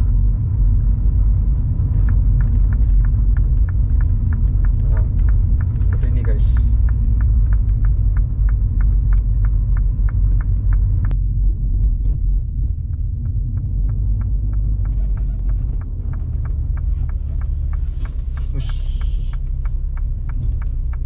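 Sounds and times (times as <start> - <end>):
car engine and road rumble: 0.0 - 21.0
turn signal ticking: 0.0 - 21.0.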